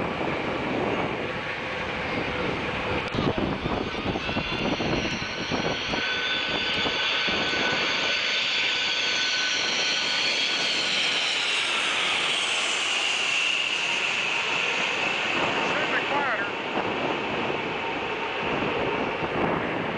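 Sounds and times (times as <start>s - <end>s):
jet flying overhead: 0.0s - 19.9s.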